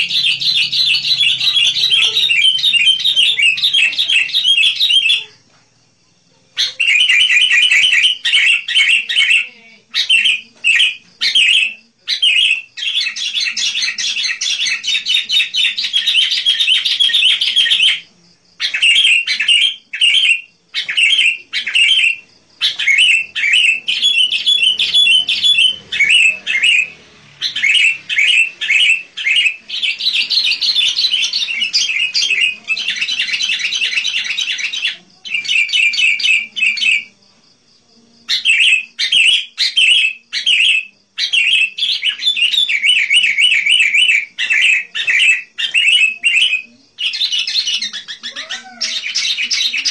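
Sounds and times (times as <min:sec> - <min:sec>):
bird rapid chirping song: 0:00.0 - 0:05.4, 0:06.6 - 0:37.1, 0:38.3 - 0:49.9.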